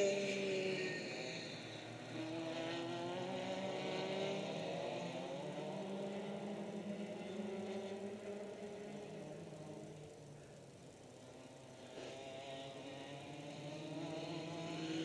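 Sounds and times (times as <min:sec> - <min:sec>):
racing kart engines: 0:00.0 - 0:15.0.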